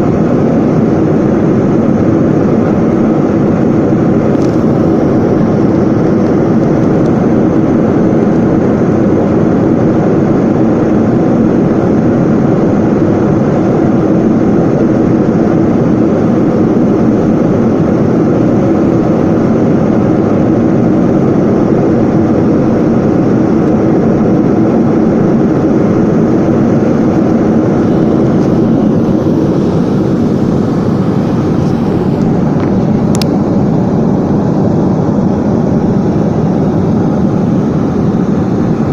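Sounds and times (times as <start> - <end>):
airplane engine noise: 0.0 - 38.9.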